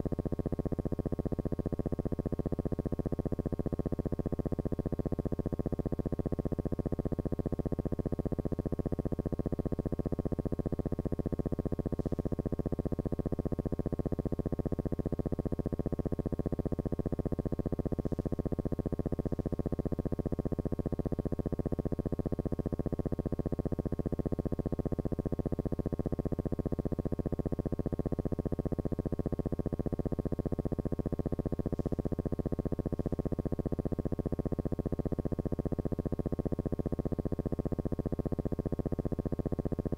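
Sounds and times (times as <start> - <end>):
low buzzing hum: 0.0 - 39.9.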